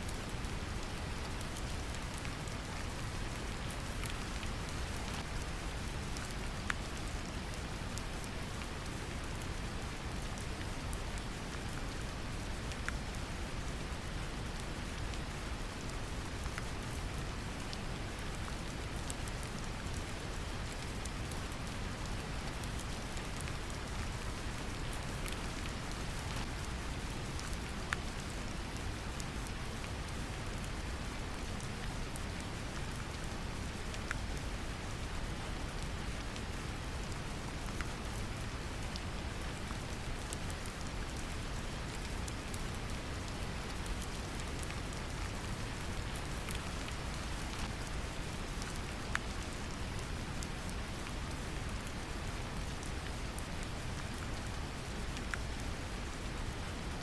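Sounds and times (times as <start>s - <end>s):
brown noise rumbling hiss: 0.0s - 57.0s
gentle rain patter: 0.0s - 57.0s
raindrops ticking on a surface: 0.1s - 57.0s.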